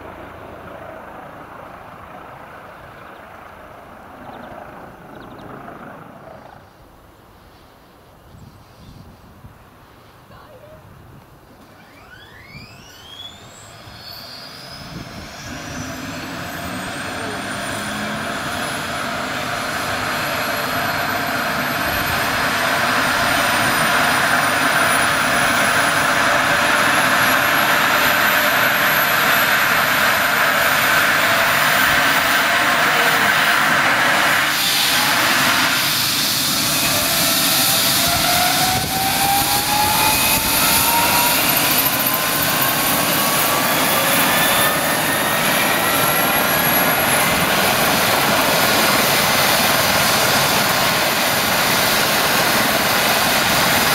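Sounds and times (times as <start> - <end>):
helicopter rotor noise: 0.0 - 7.5, 11.7 - 53.9
helicopter turbine whine: 0.0 - 53.9.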